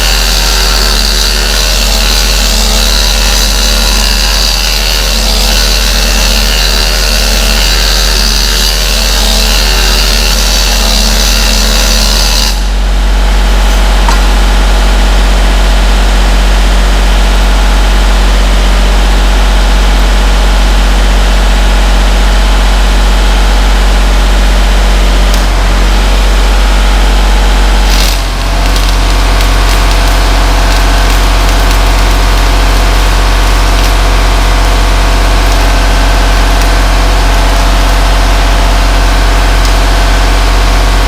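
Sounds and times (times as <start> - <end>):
loud machine drone: 0.0 - 41.0.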